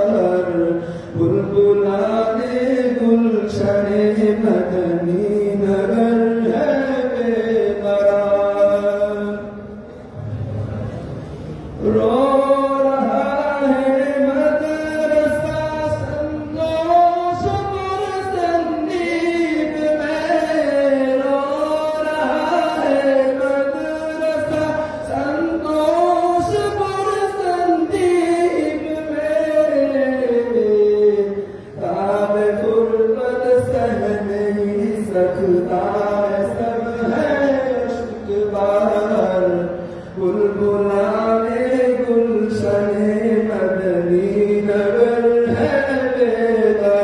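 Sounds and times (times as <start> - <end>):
man singing unaccompanied: 0.0 - 9.8, 11.8 - 47.0.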